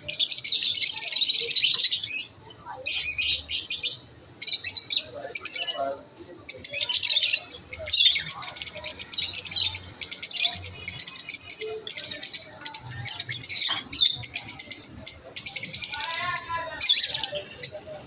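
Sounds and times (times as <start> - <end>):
lovebirds chirping: 0.0 - 18.0.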